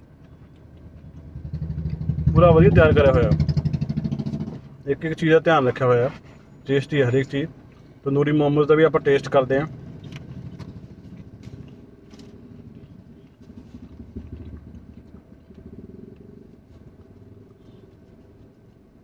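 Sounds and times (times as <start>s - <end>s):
road traffic rumble inside car: 0.0s - 19.0s.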